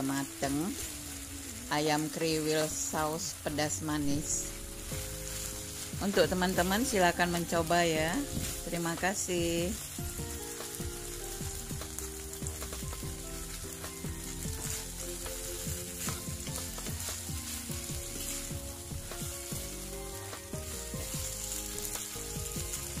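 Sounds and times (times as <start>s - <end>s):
chicken sizzling in a frying pan: 0.0s - 23.0s.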